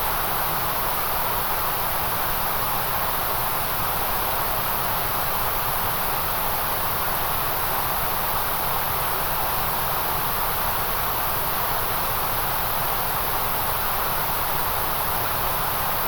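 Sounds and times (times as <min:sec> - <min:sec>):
steady white noise hiss: 0:00.0 - 0:16.0.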